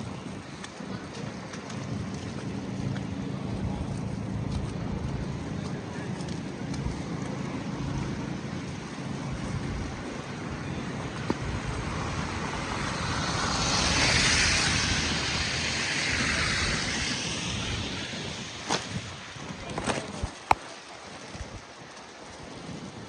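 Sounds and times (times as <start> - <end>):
low city rumble: 0.0 - 21.7.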